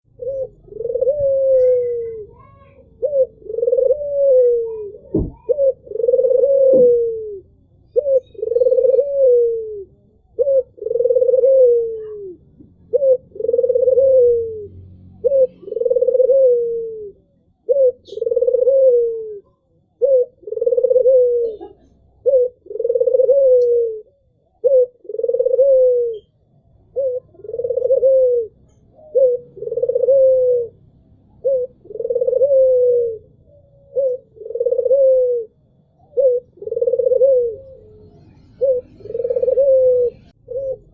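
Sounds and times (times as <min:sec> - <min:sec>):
dove cooing: 0:00.1 - 0:40.9.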